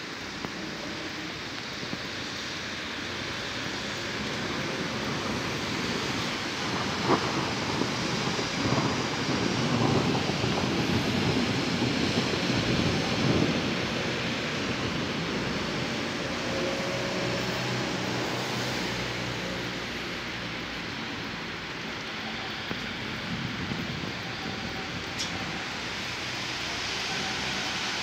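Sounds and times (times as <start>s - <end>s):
rain and wind hissing: 0.0s - 28.0s.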